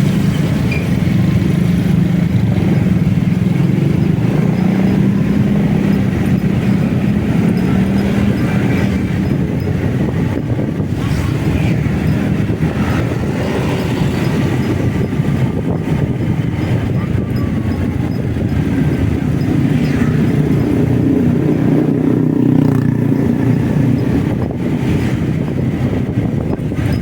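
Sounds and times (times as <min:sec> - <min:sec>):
motorcycle engine and road noise: 0:00.0 - 0:27.0.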